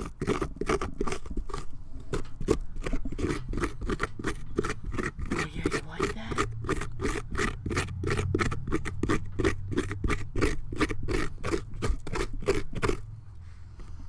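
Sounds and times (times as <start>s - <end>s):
pumpkin being scraped by hand: 0.0s - 14.0s.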